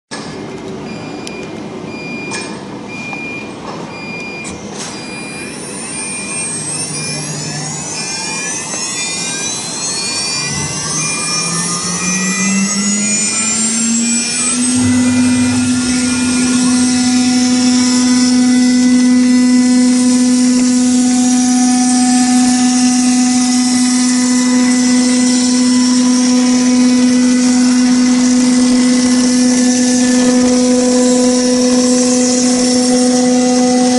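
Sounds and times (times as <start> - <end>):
router spindle whine: 5.2 - 33.9.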